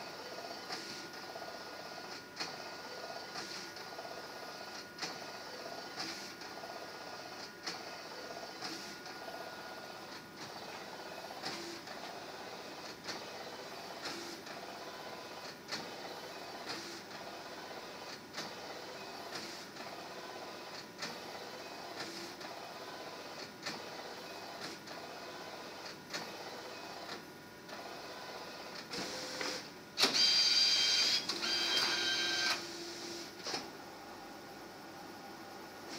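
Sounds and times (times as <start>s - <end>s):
printer motor whine: 0.0s - 34.5s.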